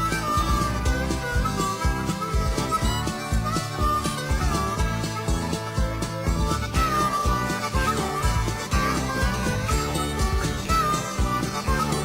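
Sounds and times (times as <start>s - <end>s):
instrumental music with sliding melody: 0.0s - 12.0s.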